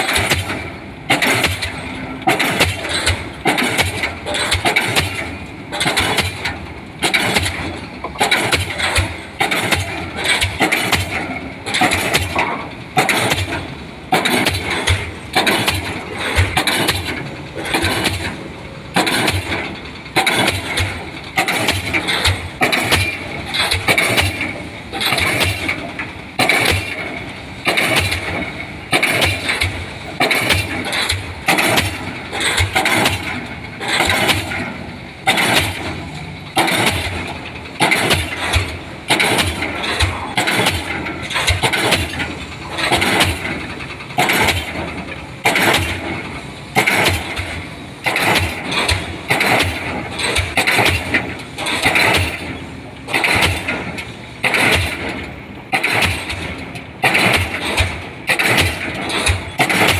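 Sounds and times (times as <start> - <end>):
pile hammer blows: 0.0 - 18.4, 19.0 - 59.9.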